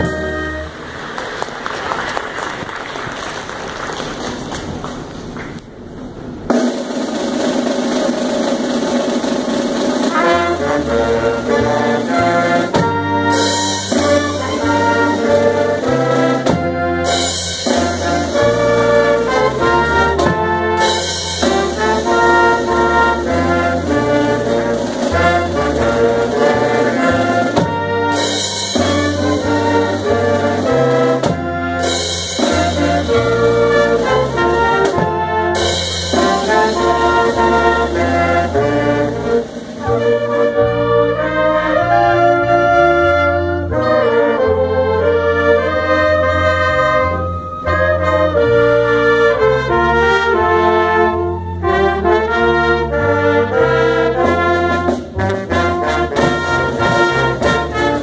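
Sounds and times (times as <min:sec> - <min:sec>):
brass band playing upbeat tune: 0:00.0 - 0:04.5, 0:06.5 - 0:58.0.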